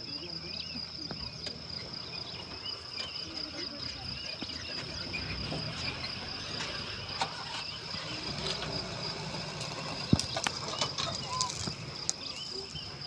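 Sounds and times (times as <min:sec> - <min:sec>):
insects shrilling: 0:00.0 - 0:13.0
short insect chirps: 0:01.0 - 0:13.0.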